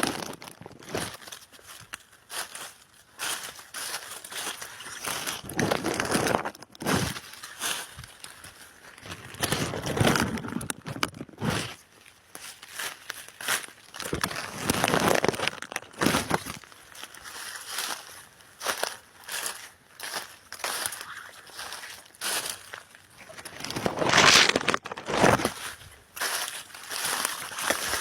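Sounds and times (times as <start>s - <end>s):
dry leaves and twigs rustling: 0.0s - 28.0s.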